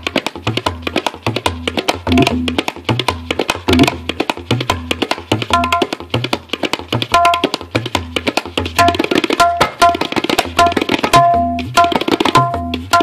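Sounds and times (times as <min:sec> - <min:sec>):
fast tabla strokes: 0:00.0 - 0:13.0.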